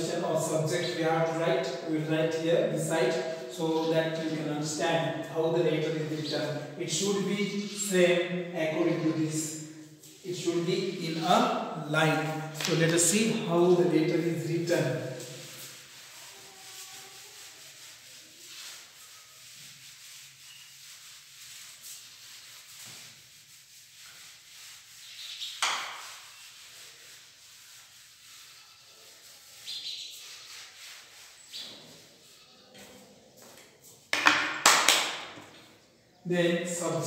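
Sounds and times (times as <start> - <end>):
duster rubbing on chalkboard: 0.0 - 34.1.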